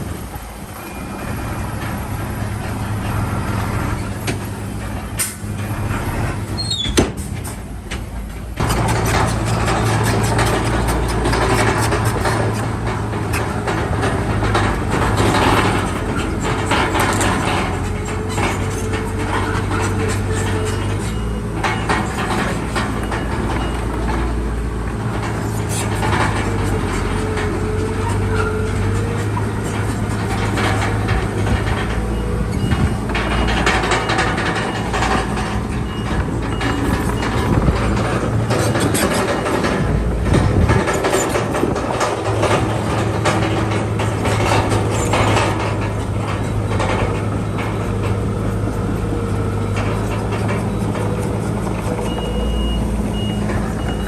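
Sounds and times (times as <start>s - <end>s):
diesel engine running: 0.0s - 54.0s
steel tracks clanking: 0.0s - 54.0s.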